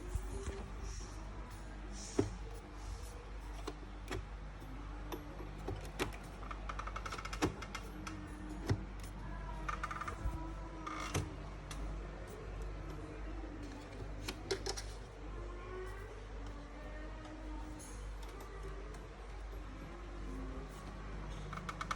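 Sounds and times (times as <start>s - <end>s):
computer parts clicking and knocking: 2.0s - 15.2s, 17.2s - 21.9s.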